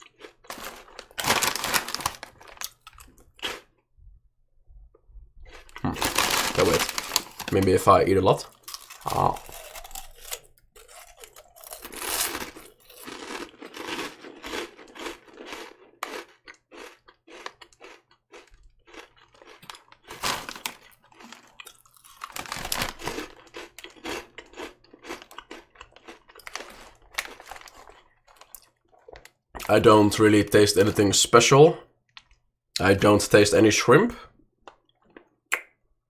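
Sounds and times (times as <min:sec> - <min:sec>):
person chewing crunchy crackers: 0:00.0 - 0:03.9, 0:04.9 - 0:30.1, 0:32.1 - 0:32.4, 0:34.6 - 0:35.5.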